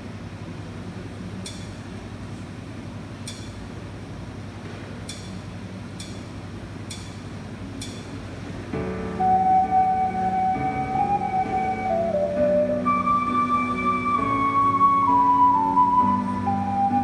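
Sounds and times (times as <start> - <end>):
boombox hum and hiss: 0.0 - 17.0.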